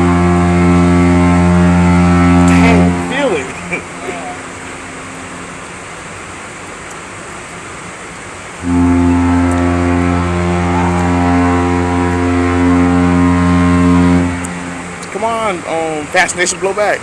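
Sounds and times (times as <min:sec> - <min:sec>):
ship's horn blast: 0:00.0 - 0:06.4, 0:08.6 - 0:15.8
steady background rush: 0:00.0 - 0:16.8.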